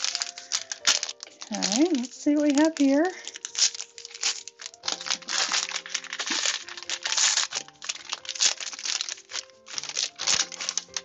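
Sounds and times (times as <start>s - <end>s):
packaging crinkling and rustling: 0.0s - 11.0s
soft background music: 0.0s - 11.0s.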